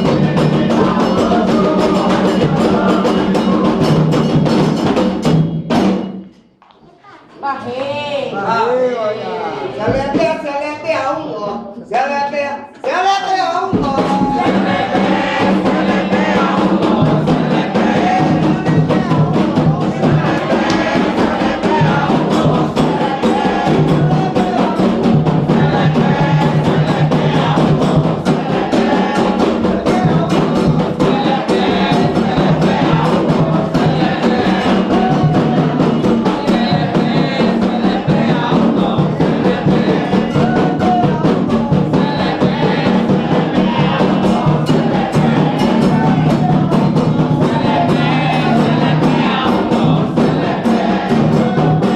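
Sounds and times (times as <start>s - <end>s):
voices singing a chant: 0.0s - 6.0s, 7.6s - 51.9s
hand drums playing fast rhythm: 0.0s - 6.1s, 13.7s - 51.9s.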